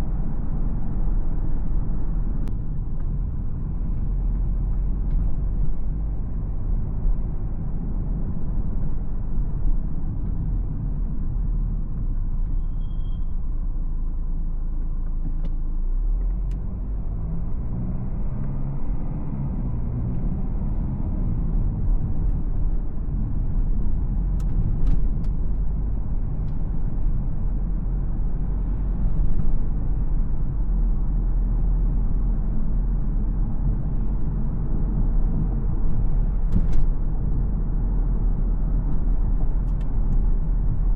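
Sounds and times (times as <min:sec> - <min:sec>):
car engine rumbling: 0:00.0 - 0:40.9.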